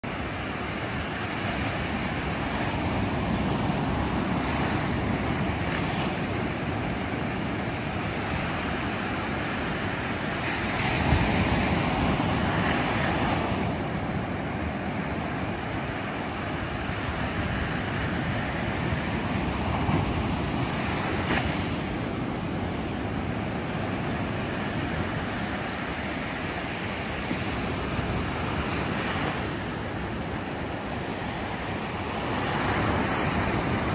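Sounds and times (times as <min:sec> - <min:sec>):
ocean surf breaking on beach: 0:00.0 - 0:33.9.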